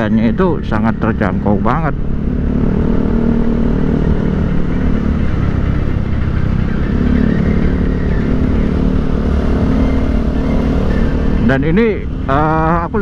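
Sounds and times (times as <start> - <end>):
motorcycle engine hum: 0.0 - 13.0
road and wind noise: 0.0 - 13.0.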